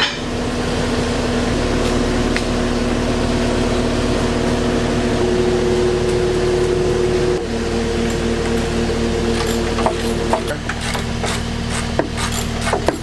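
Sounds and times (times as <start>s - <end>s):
lifting machine engine whining: 0.0s - 13.0s.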